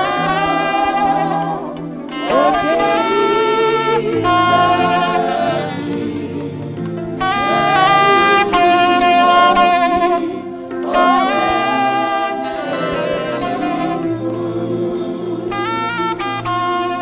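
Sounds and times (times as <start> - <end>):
low accompaniment: 0.0 - 17.0
saxophone melody: 0.0 - 17.0.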